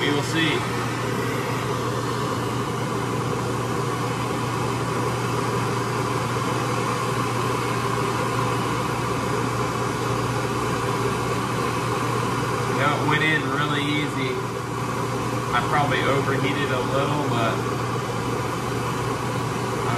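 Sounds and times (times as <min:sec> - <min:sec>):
gas torch flame hissing: 0:00.0 - 0:19.9
lathe humming: 0:00.0 - 0:19.9.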